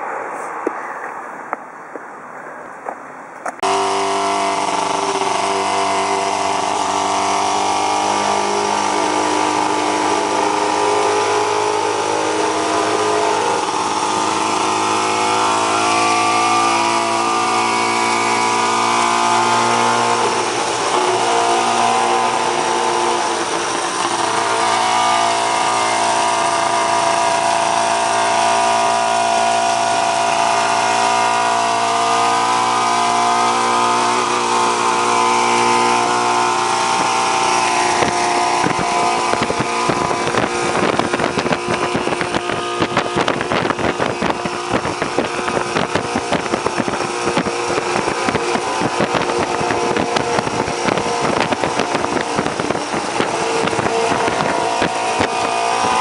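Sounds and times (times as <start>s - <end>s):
motorcycle engine running: 3.6s - 56.0s.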